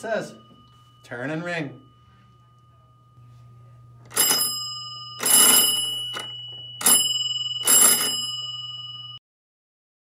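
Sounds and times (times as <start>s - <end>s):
mechanical doorbell ringing: 0.0s - 9.2s.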